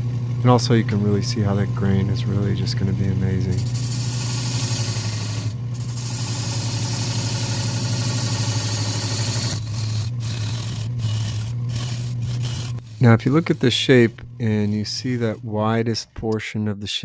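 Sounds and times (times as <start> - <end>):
wood lathe humming: 0.0 - 15.9
turning tool scraping wood: 0.8 - 16.4.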